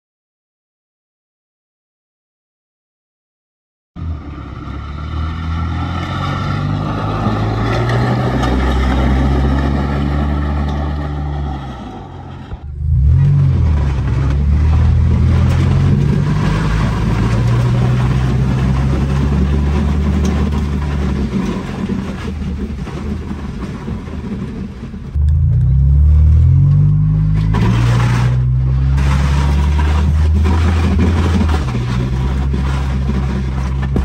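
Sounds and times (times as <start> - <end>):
car engine accelerating: 4.0 - 23.4, 25.0 - 34.0
rough rushing road noise: 4.0 - 34.0.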